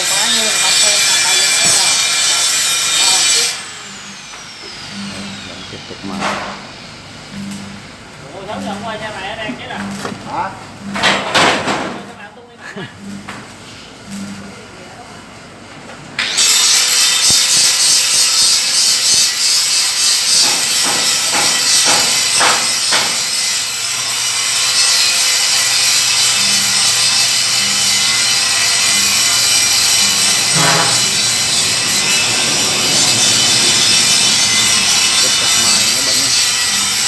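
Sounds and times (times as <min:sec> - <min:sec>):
angle grinder grinding metal: 0:00.0 - 0:09.0, 0:16.2 - 0:37.0.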